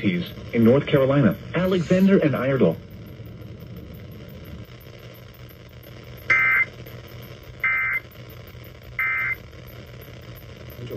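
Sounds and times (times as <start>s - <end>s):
faint steady hum: 0.0s - 10.9s
screechy digital data bursts: 0.0s - 10.9s.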